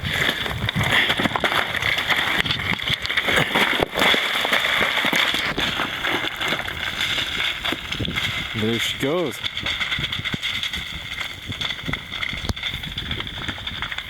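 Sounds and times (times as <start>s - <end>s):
gravel crackling and crunching: 0.0s - 14.0s.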